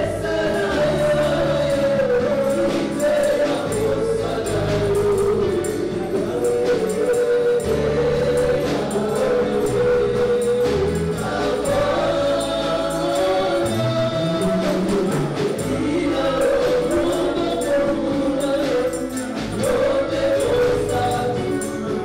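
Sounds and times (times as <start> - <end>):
bass line: 0.0 - 22.0
choir singing: 0.0 - 22.0
percussion beat: 0.0 - 22.0.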